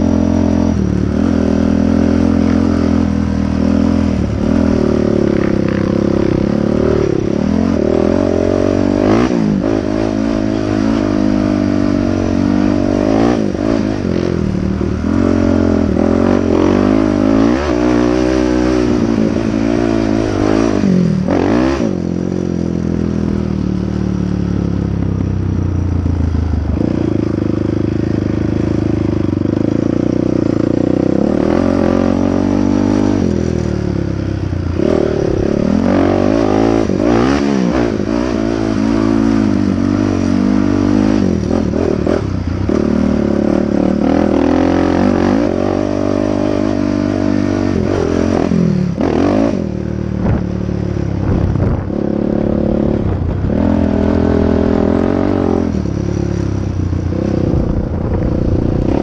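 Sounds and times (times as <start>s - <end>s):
quad engine revving: 0.0s - 22.3s, 26.6s - 59.0s.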